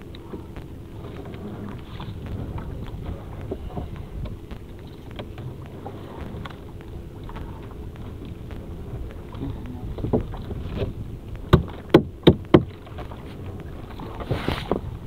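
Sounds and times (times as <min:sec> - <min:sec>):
boat motor rumble: 0:00.0 - 0:15.0
wind on microphone: 0:00.0 - 0:15.0.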